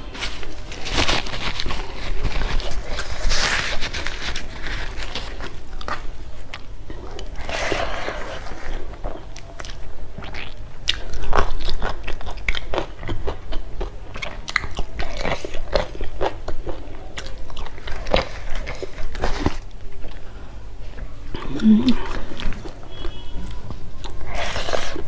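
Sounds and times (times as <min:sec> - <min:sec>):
person chewing food: 0:01.1 - 0:25.0.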